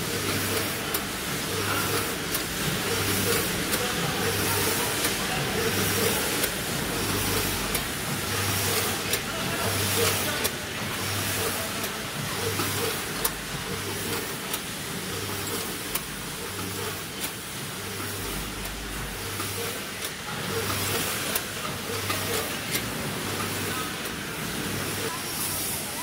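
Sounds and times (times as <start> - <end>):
machine hiss: 0.0 - 26.0.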